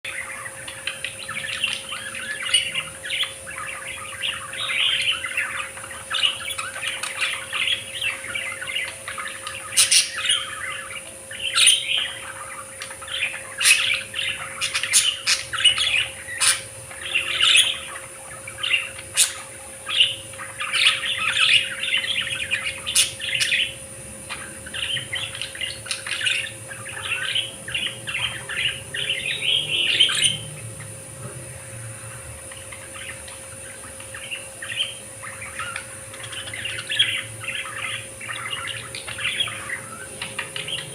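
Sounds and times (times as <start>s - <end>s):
budgerigars chattering and warbling: 0.1s - 40.9s.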